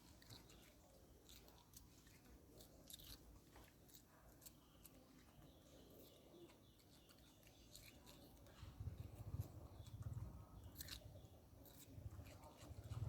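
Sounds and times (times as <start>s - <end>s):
monkey chewing food: 0.0s - 13.0s.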